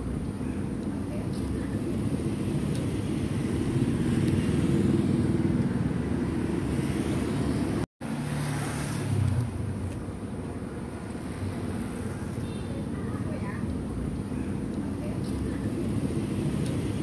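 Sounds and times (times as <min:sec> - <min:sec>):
motorbikes passing: 0:00.0 - 0:17.0
vehicle engines passing: 0:00.0 - 0:17.0.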